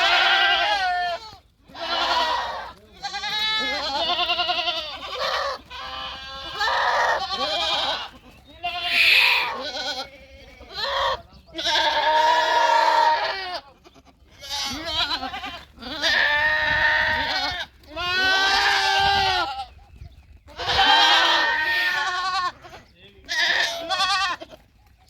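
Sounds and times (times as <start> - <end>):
goats bleating: 0.0 - 19.8, 20.5 - 24.8.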